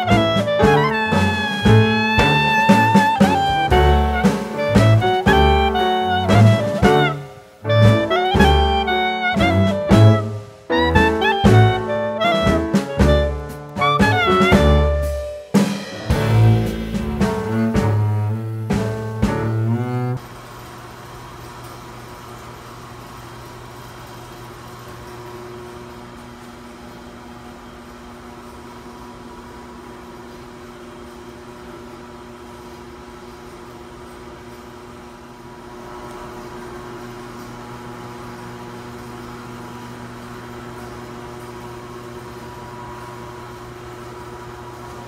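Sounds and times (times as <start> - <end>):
ventilation fan electric hum: 0.0 - 45.0.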